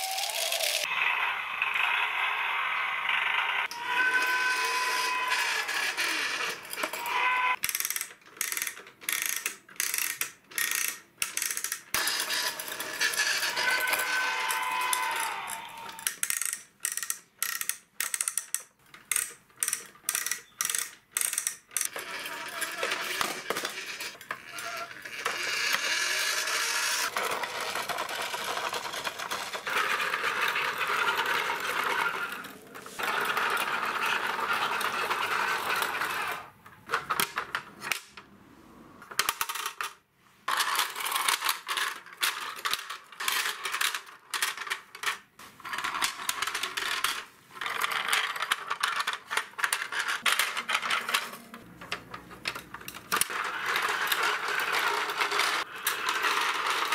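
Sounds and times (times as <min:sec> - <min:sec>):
plastic toys scraping on concrete: 0:03.6 - 0:10.9, 0:11.5 - 0:16.7, 0:19.1 - 0:38.0, 0:39.0 - 0:56.9.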